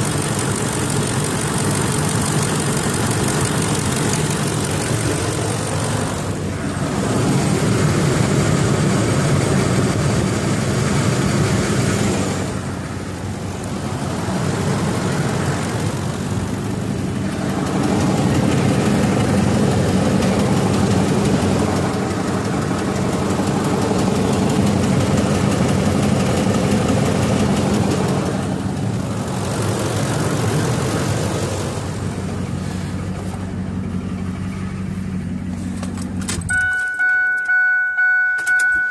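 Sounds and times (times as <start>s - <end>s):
engine ticking: 0.0s - 38.9s
truck engine running: 0.0s - 38.9s.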